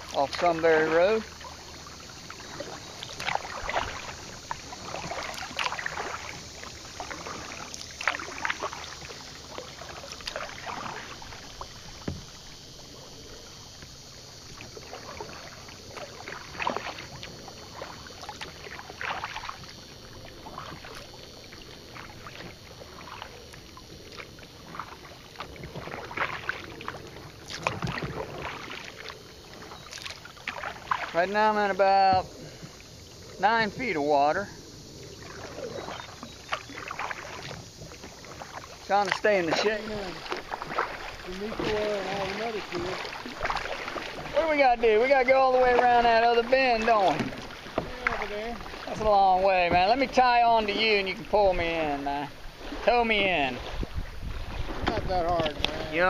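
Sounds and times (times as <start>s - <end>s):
paddle splashing in water: 0.0s - 56.0s.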